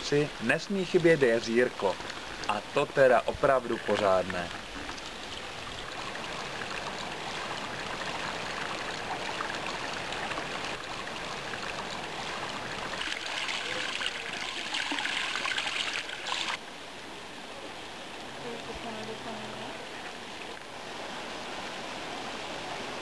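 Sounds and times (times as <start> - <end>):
water trickling into pond: 0.0 - 23.0.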